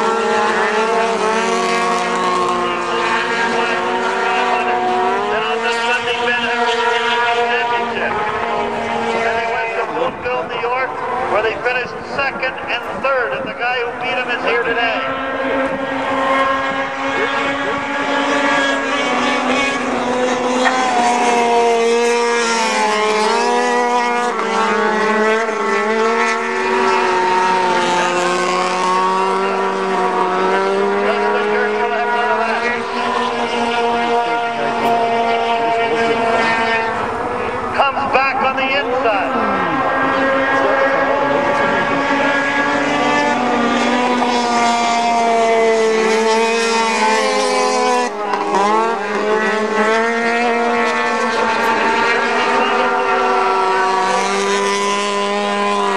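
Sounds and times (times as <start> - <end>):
snowmobile engines revving: 0.0 - 55.9.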